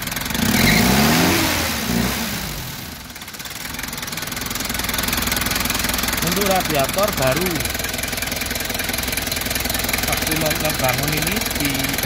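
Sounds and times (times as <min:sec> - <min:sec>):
diesel engine revving and idling: 0:00.0 - 0:12.0.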